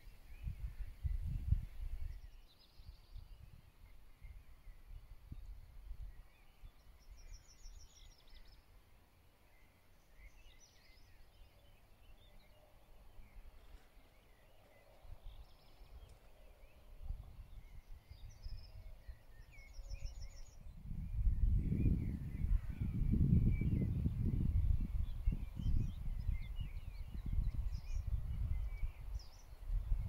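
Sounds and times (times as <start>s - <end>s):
birds singing: 0.0s - 30.0s.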